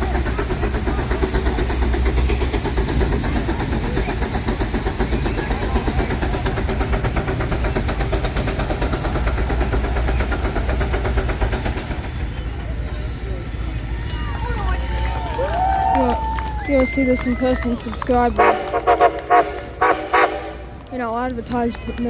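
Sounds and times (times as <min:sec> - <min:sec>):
steam engine exhaust chuffing: 0:00.0 - 0:22.0.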